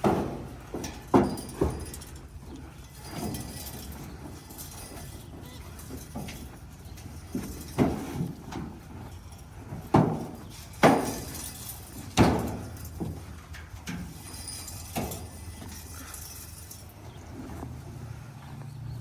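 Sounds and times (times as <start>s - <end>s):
horses feeding on hay: 0.0s - 19.0s.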